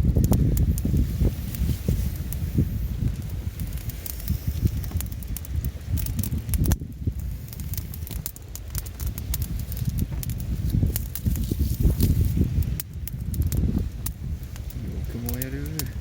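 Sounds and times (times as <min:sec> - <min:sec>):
low rumble: 0:00.0 - 0:16.0
wood fire crackling: 0:00.0 - 0:16.0.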